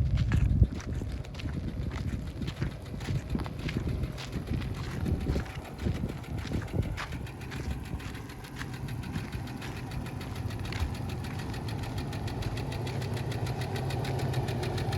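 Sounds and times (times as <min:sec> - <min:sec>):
pickup truck engine idling: 0:00.6 - 0:14.9.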